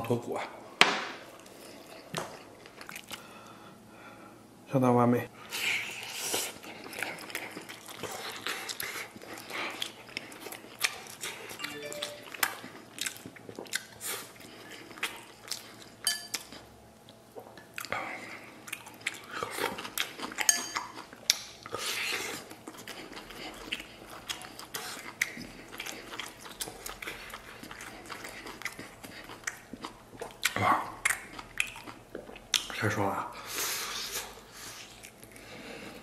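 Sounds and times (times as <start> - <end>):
chewing and biting: 1.4 - 3.2, 5.9 - 32.8, 34.2 - 35.6.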